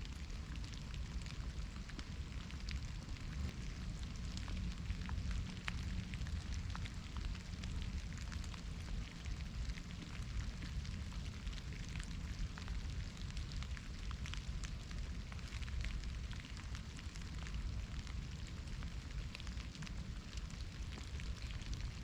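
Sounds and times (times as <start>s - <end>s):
low rumble: 0.0s - 18.2s
soft rain drops tapping: 0.0s - 22.0s.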